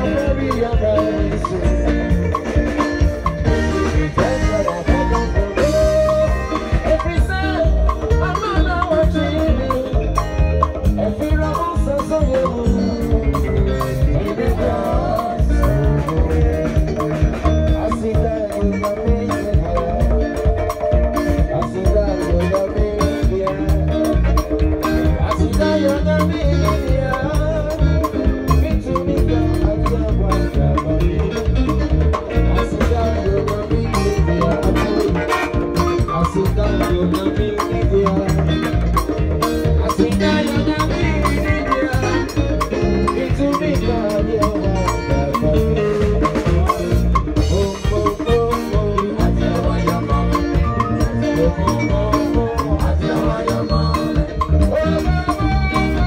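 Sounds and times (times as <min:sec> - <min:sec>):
live band playing gospel music: 0:00.0 - 0:56.0
moving bass line: 0:00.0 - 0:56.0
steady drum beat: 0:00.0 - 0:56.0.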